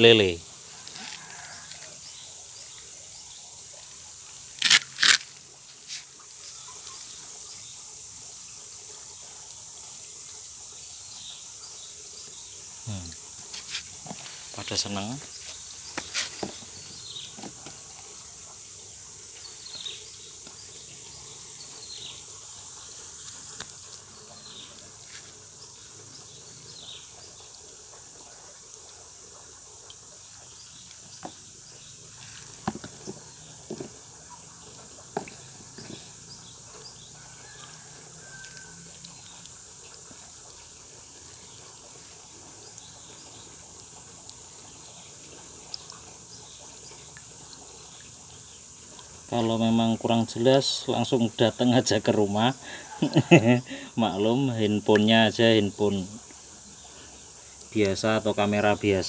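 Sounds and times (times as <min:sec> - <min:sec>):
high hiss: 0:00.0 - 0:59.0.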